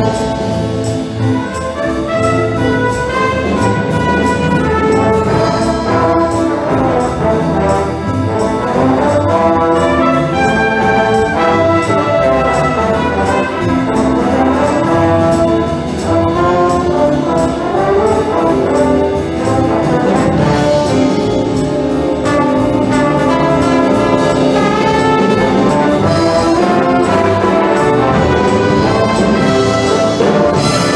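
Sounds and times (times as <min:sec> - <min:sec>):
brass section playing swinging tune: 0:00.0 - 0:30.9
steady cymbal beat: 0:00.0 - 0:30.9.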